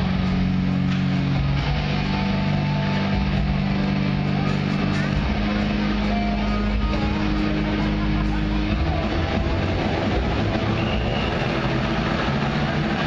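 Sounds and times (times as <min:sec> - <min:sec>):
motorcycle engines droning: 0:00.0 - 0:13.0.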